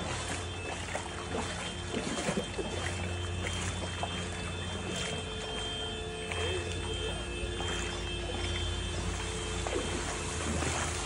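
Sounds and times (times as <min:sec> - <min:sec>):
floodwater sloshing and trickling: 0:00.0 - 0:11.0
steady low hum: 0:00.0 - 0:11.0.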